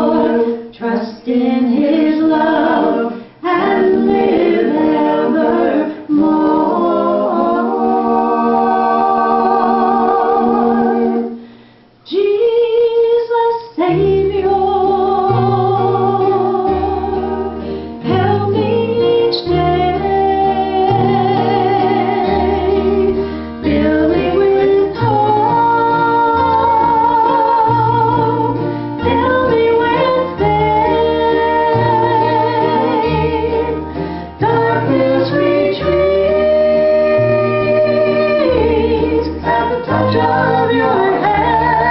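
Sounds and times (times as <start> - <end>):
voices singing in harmony: 0.0 - 11.5, 12.1 - 41.9.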